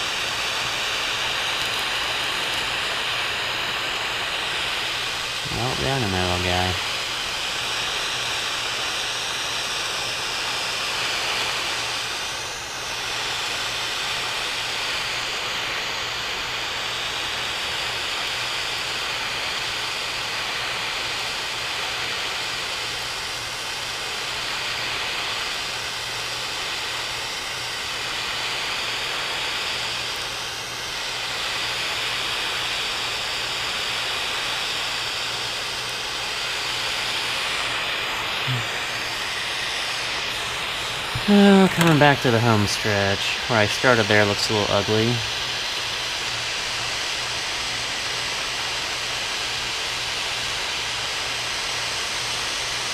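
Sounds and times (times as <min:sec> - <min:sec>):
torch flame hissing: 0:00.0 - 0:52.9.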